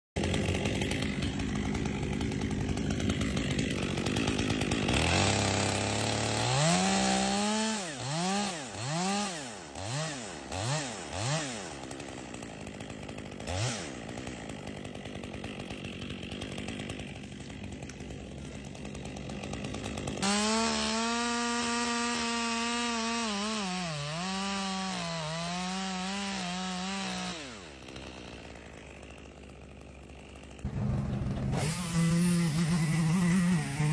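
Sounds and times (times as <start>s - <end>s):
chainsaw revving: 0.2s - 33.9s.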